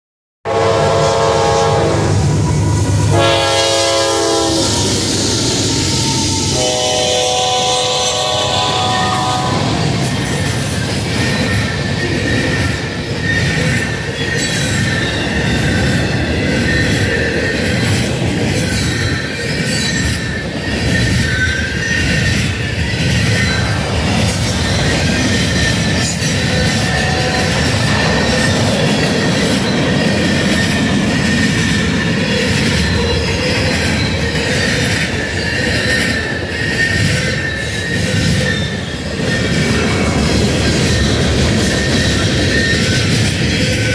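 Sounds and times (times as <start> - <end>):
high-pitched wheel squeal: 1.4 - 18.0, 18.6 - 43.9
train wheels clattering on rails: 2.2 - 43.9.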